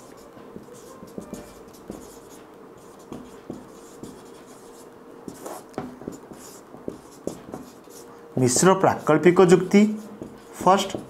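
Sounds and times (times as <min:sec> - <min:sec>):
faint hum: 0:00.0 - 0:11.0
marker writing on whiteboard: 0:00.0 - 0:11.0.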